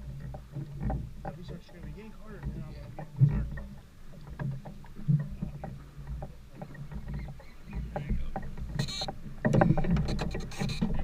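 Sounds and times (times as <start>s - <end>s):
boat engine rumble: 0.0s - 11.0s
light knocks and clicks: 0.1s - 11.0s.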